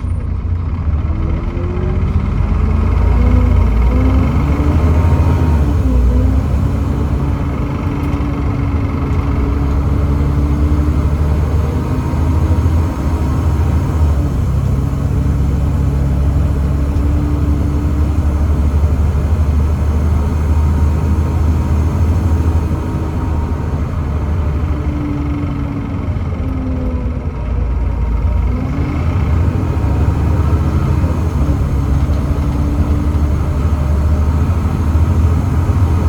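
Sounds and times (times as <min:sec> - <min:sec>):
diesel bus engine droning: 0:00.0 - 0:36.0.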